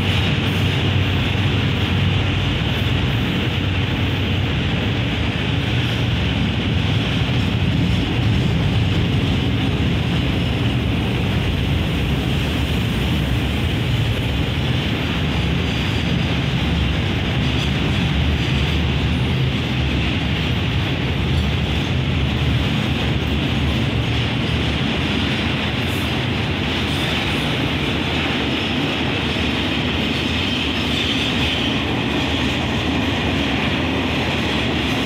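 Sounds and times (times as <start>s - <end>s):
freight train wheels on rails: 0.0s - 35.0s.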